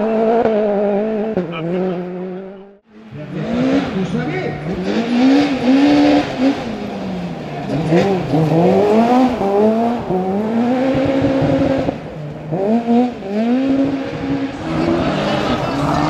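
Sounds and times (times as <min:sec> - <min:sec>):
rally car engine revving hard: 0:00.0 - 0:16.0.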